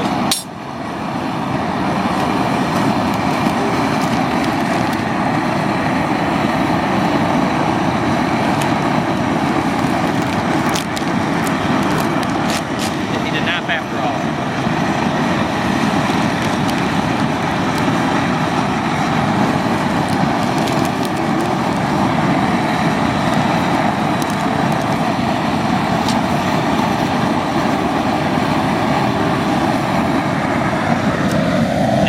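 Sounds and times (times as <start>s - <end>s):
propane burner roaring: 0.0s - 32.0s.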